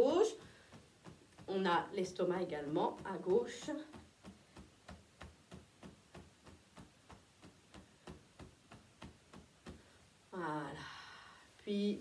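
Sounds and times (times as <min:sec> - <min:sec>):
fingertips tapping on belly: 0:00.0 - 0:10.2.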